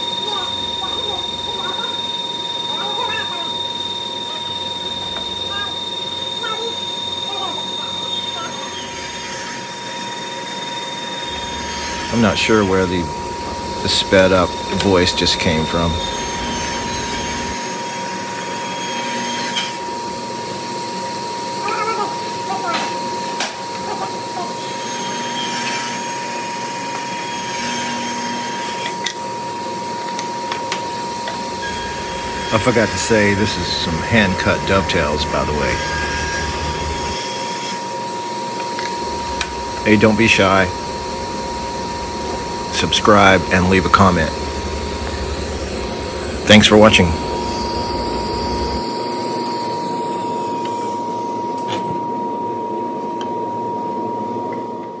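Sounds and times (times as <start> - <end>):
woodworking machine running: 0.0 - 20.9, 22.2 - 51.9.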